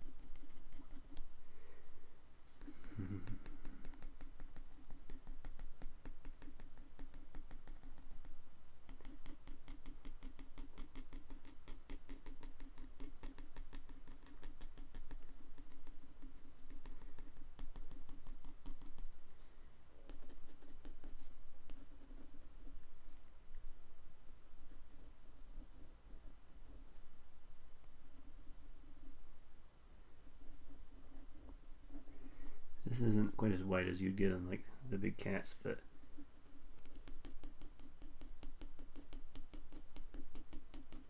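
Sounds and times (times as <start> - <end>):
pencil scratching on paper: 0.0 - 1.4, 2.5 - 23.3, 24.5 - 27.1, 30.3 - 32.3, 32.9 - 34.2, 35.0 - 41.0.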